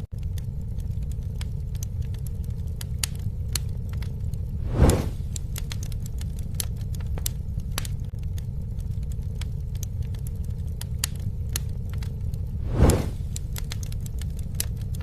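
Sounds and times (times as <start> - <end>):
campfire crackling: 0.0 - 15.0
low rumble of fire: 0.0 - 15.0.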